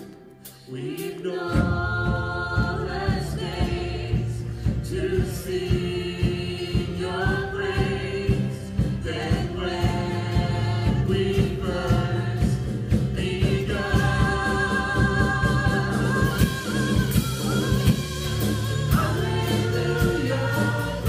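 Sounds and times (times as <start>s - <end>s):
drum kit beat: 0.0s - 21.0s
vocalists singing held notes: 0.0s - 21.0s
electric and acoustic guitars: 2.6s - 21.0s.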